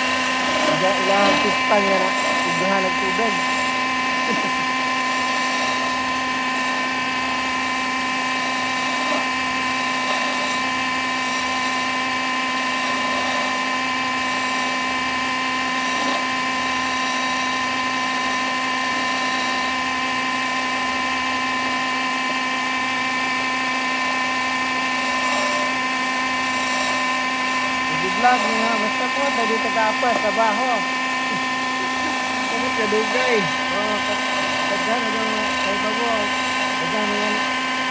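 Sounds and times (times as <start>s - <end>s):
lathe motor whine: 0.0s - 37.9s.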